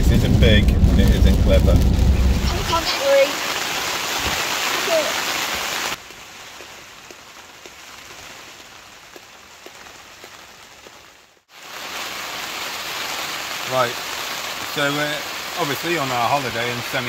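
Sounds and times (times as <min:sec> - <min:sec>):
rain on tent fabric: 0:00.0 - 0:17.0.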